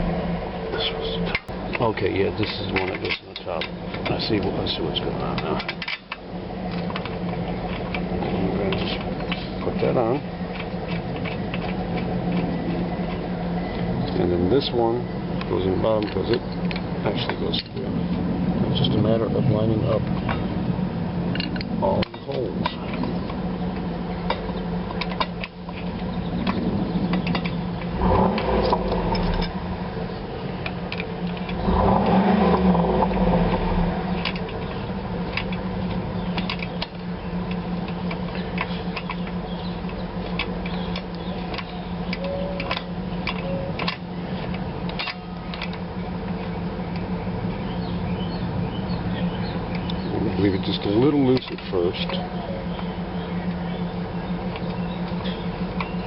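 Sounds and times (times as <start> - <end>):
steady low hum: 0.0 - 56.0
metal clicks of brake parts: 1.2 - 18.2, 20.0 - 20.5, 21.3 - 29.6, 30.2 - 56.0.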